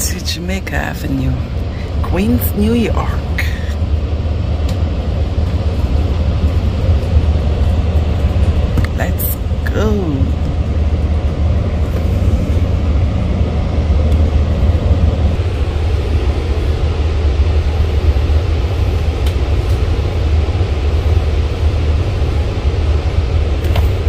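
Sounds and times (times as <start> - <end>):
train rumble from inside car: 0.0 - 24.0.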